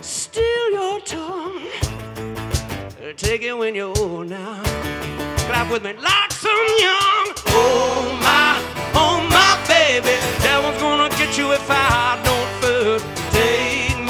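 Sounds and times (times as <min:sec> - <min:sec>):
man singing: 0:00.0 - 0:01.9, 0:03.0 - 0:14.0
guitars playing: 0:00.0 - 0:03.4, 0:04.6 - 0:14.0
drum and percussion hits: 0:01.8 - 0:03.4, 0:04.0 - 0:14.0.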